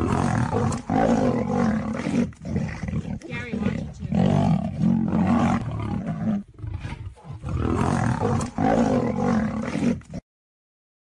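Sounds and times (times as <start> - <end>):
big cats roaring: 0.0 - 10.2.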